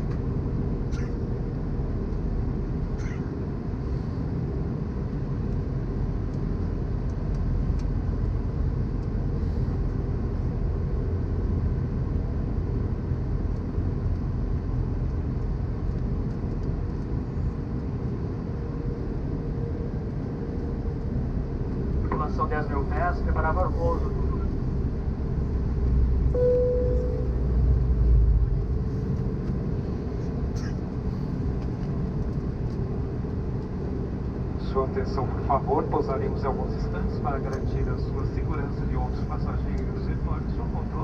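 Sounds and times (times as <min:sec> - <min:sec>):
airliner cabin rumble: 0:00.0 - 0:41.0
faint constant hum: 0:00.0 - 0:41.0.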